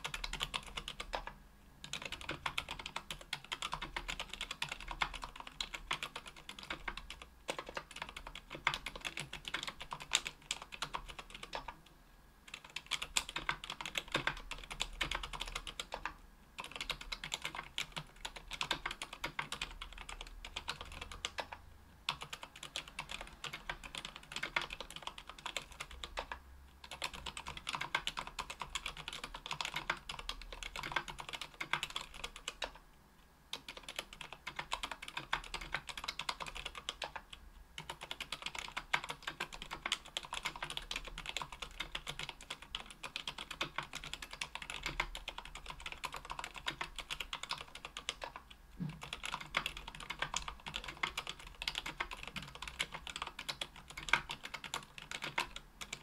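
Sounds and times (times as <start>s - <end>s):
typing on a keyboard: 0.0s - 11.8s, 12.5s - 32.8s, 33.5s - 56.0s.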